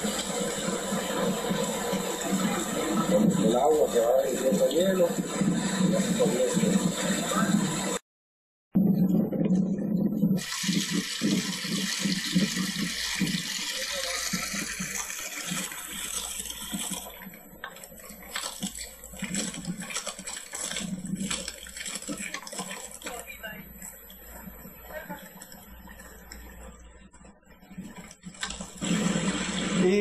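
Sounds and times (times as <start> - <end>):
meltwater rushing over ice: 0.0 - 8.0, 10.4 - 26.3, 28.3 - 30.0.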